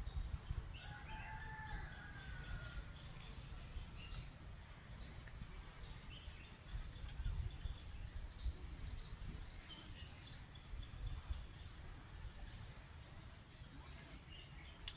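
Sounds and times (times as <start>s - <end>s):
small songbirds chirping: 0.0s - 14.9s.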